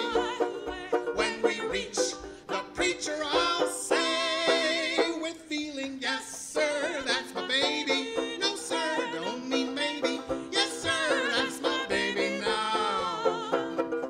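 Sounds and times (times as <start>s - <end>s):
banjo ukulele strummed: 0.0s - 14.0s
person singing with vibrato: 0.0s - 14.0s.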